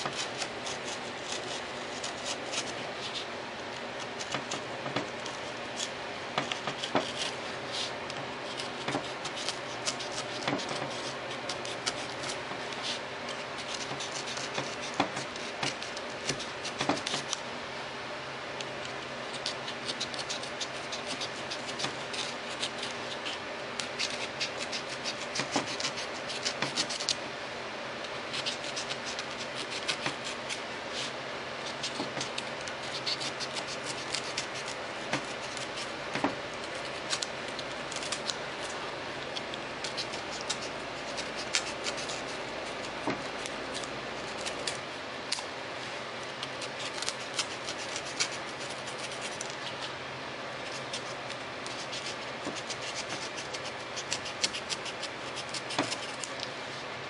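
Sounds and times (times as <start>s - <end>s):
knife cutting foam board: 0.0s - 17.4s, 19.3s - 27.2s, 28.3s - 38.8s, 39.4s - 45.5s, 46.4s - 49.9s, 50.6s - 56.4s.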